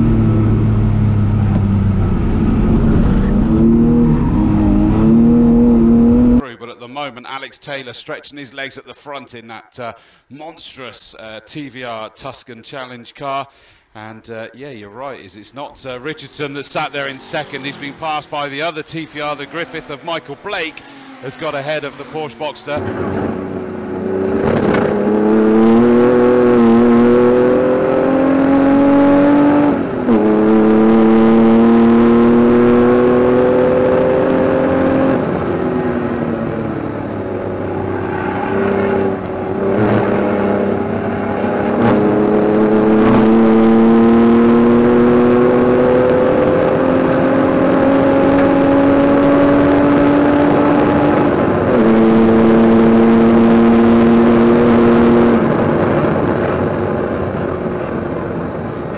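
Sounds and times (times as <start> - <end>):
race car engine revving: 0.0 - 6.4, 15.9 - 58.7.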